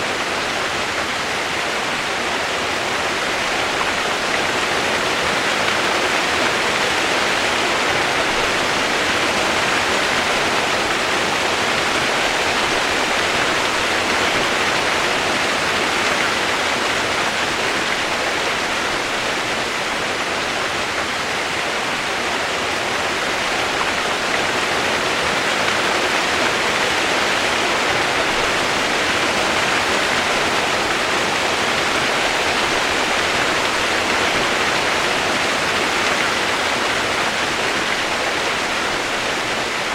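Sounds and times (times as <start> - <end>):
steady hiss of rain: 0.0 - 39.9.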